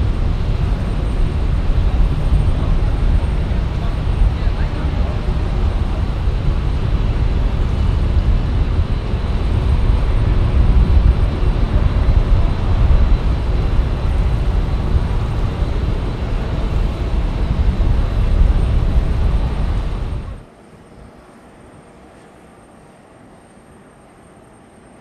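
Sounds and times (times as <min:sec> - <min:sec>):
jet engine rumble: 0:00.0 - 0:25.0.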